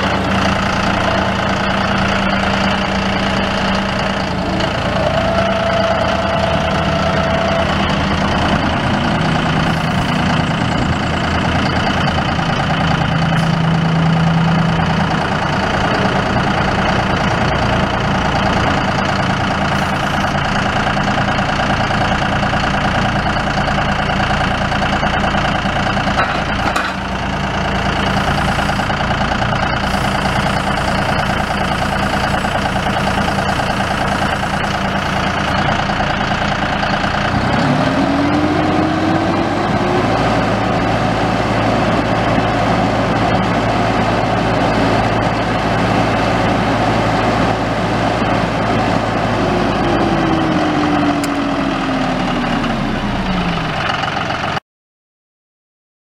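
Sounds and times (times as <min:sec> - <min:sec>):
tractor diesel engine running: 0:00.0 - 0:54.6.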